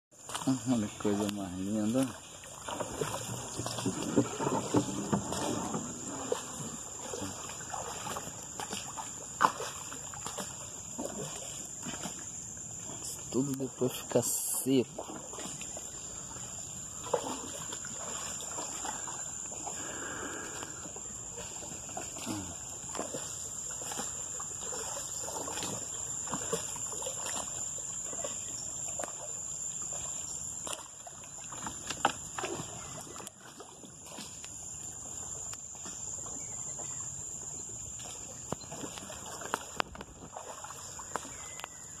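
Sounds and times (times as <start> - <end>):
water splashing and trickling: 0.1 - 42.0
insects buzzing: 0.2 - 42.0.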